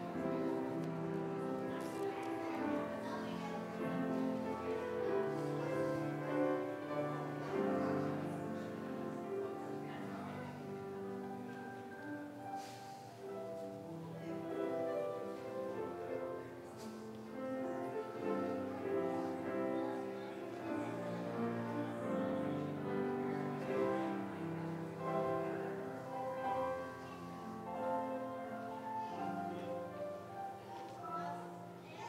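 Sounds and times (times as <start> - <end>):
slow keyboard instrumental music: 0.0 - 31.9.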